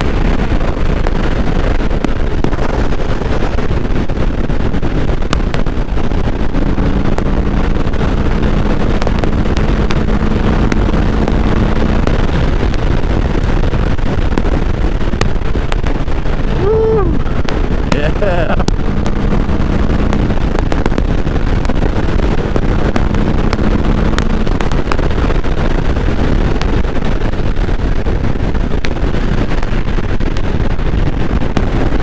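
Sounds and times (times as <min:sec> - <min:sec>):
motorcycle engine cruising: 0:00.0 - 0:32.0
wind rush on microphone: 0:00.0 - 0:32.0.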